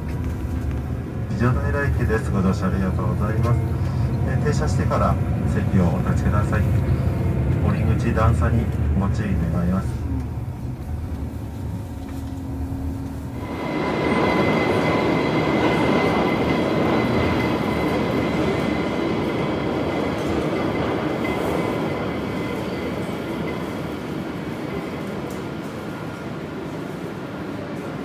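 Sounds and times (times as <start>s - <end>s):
funicular rolling rush with whine: 0.0s - 28.0s.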